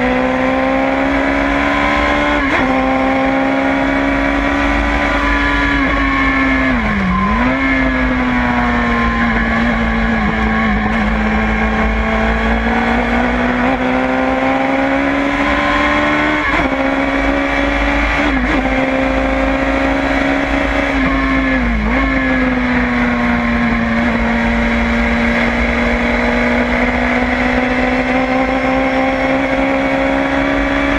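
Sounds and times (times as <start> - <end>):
race car engine at high revs: 0.0 - 30.9
road and wind rumble: 0.0 - 30.9.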